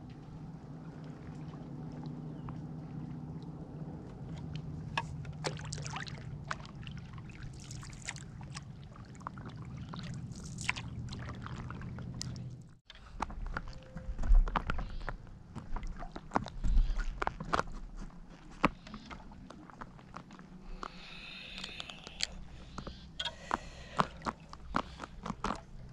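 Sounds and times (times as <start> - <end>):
paddle splashes and drips: 0.0 - 12.8, 13.5 - 17.8, 18.5 - 25.9
low steady hum: 0.0 - 25.9.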